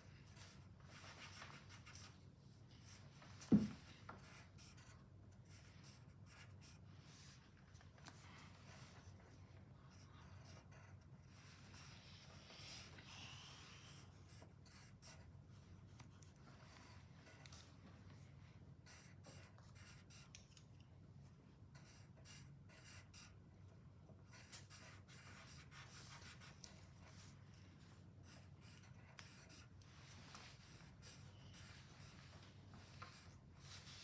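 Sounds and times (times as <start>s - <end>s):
pencil scratching on paper: 0.0s - 18.2s, 18.8s - 20.4s, 21.6s - 23.4s, 24.1s - 34.0s.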